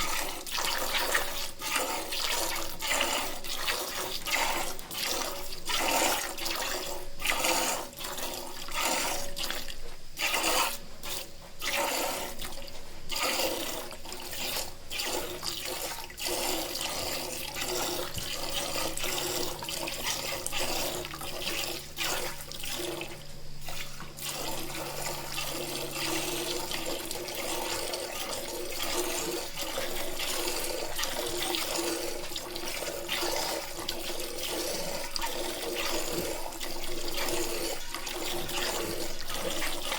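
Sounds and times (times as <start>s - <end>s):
milk squirting into a pail: 0.0s - 39.9s.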